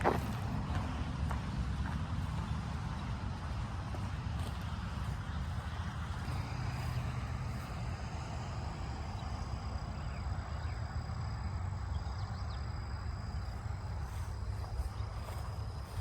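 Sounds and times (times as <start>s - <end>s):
distant road traffic: 0.0s - 16.0s.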